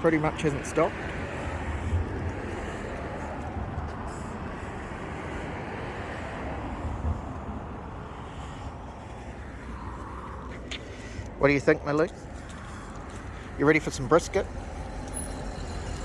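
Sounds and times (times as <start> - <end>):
road traffic rumbling: 0.0 - 16.0.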